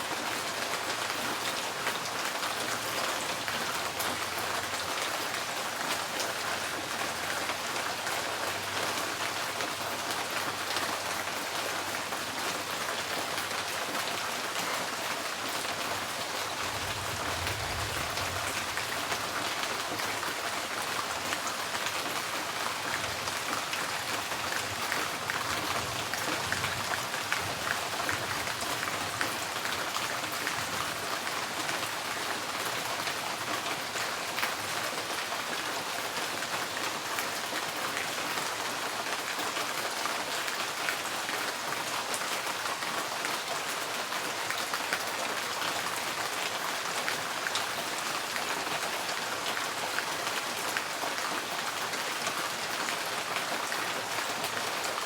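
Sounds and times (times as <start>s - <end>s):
rain drumming on a tin roof: 0.0s - 55.0s.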